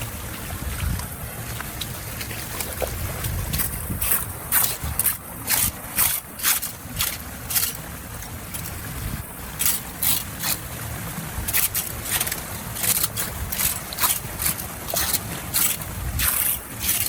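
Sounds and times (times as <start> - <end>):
sharp water splashes: 0.0 - 17.0
water rushing at a drain: 0.0 - 17.0.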